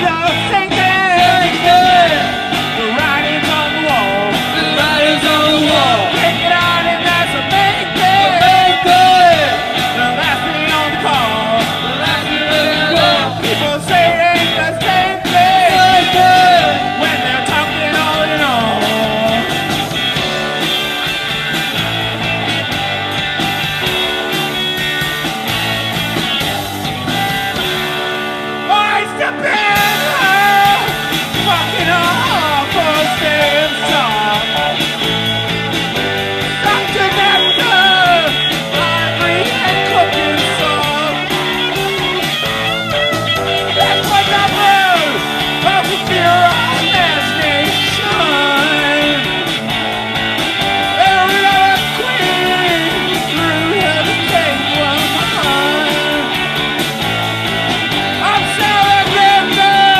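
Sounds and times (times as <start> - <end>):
person singing: 0.0 - 20.6, 28.6 - 49.8, 50.7 - 56.8, 58.1 - 59.9
drum kit: 0.0 - 59.9
electric guitars: 0.0 - 59.9
electric keyboard: 0.0 - 59.9.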